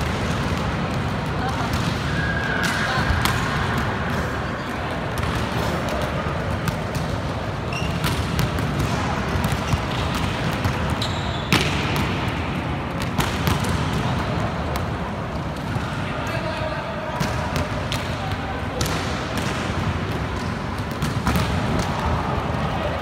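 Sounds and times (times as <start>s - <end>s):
sports hall noise: 0.0s - 23.0s
volleyballs hit and bouncing: 0.0s - 23.0s.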